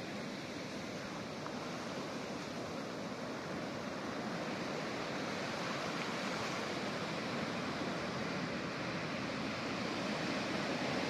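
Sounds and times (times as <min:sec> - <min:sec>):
ocean surf washing in: 0:00.0 - 0:11.0.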